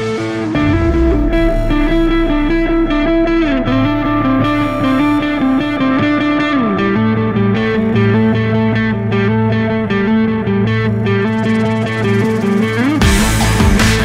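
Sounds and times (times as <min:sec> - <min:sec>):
guitar background music: 0:00.0 - 0:14.0.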